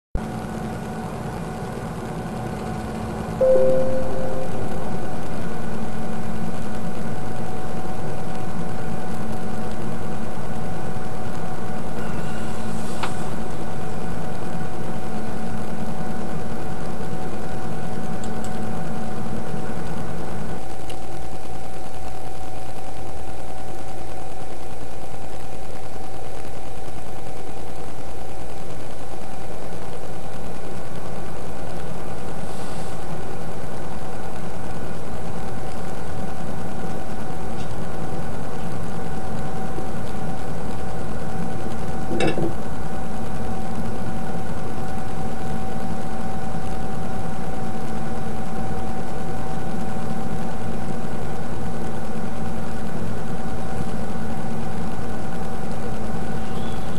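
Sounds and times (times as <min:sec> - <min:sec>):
film projector whirring: 0:05.2 - 0:56.9.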